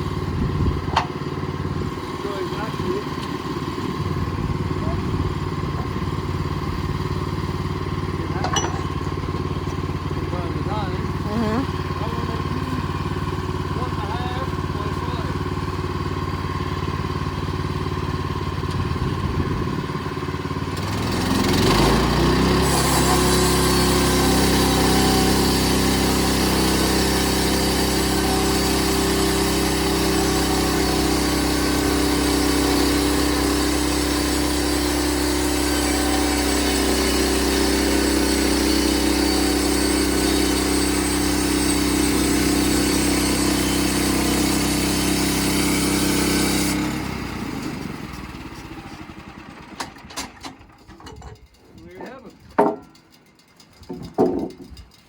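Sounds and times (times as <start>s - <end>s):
sawmill engine revving: 0.0s - 50.8s.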